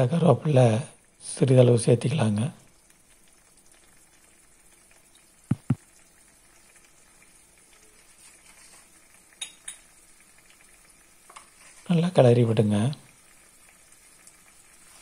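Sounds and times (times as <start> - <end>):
curry simmering in a pan: 0.0 - 15.0.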